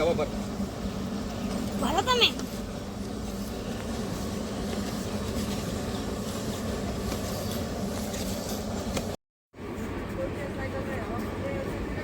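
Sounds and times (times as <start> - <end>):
constant low hum: 0.0 - 12.0
steady rumbling noise: 0.0 - 12.0.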